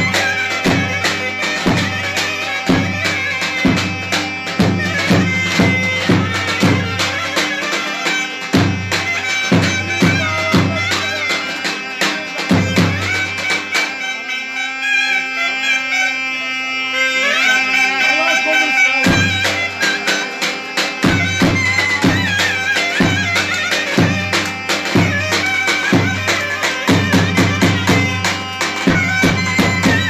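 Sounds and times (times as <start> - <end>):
heavy drum strokes: 0.0 - 14.2, 17.2 - 30.0
clarinet folk melody: 0.0 - 30.0.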